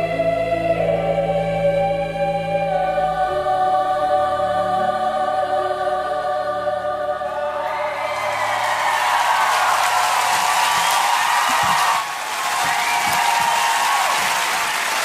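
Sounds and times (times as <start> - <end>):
choir singing long chords: 0.0 - 15.0.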